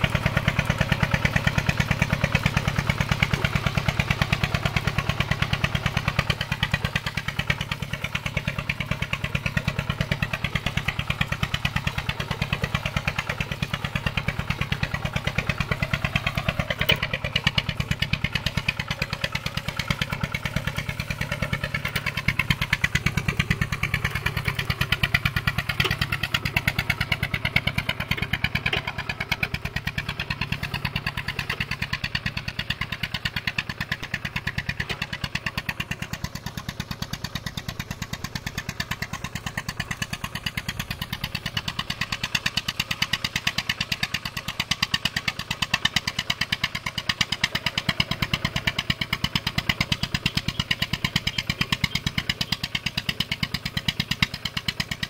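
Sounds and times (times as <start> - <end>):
walking tractor engine running: 0.0 - 55.0.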